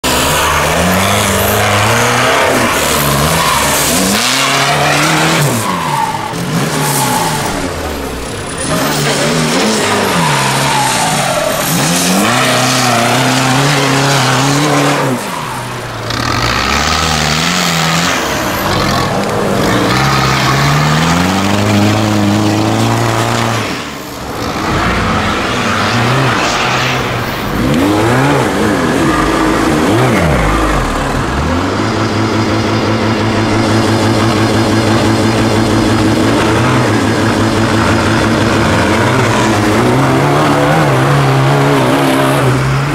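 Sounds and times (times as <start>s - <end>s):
buggy engines revving: 0.0s - 42.9s.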